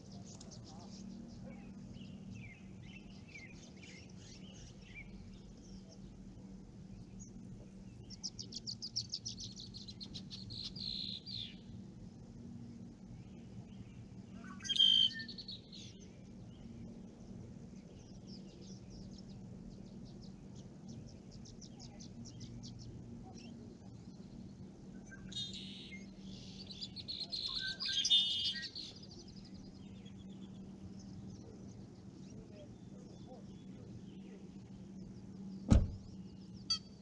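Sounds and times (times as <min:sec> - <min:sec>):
faint low hum: 0:00.0 - 0:37.0
songbirds singing: 0:00.0 - 0:37.0.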